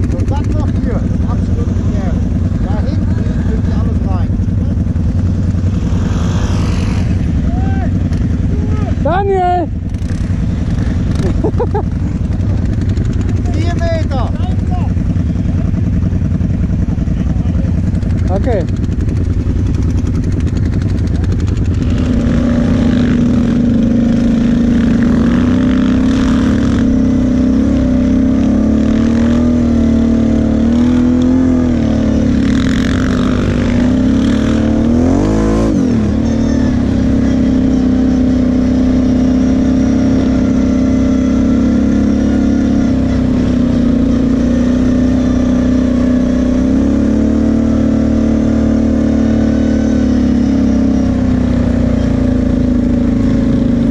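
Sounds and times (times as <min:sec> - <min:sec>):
quad bike engine running: 0:00.0 - 0:53.9.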